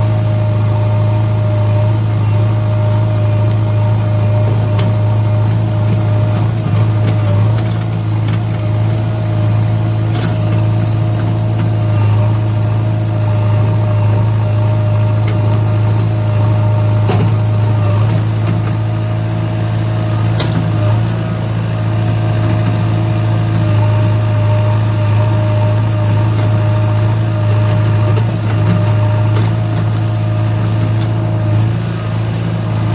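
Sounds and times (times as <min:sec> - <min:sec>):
diesel engine running: 0:00.0 - 0:32.9
thin steady whine: 0:00.0 - 0:32.9.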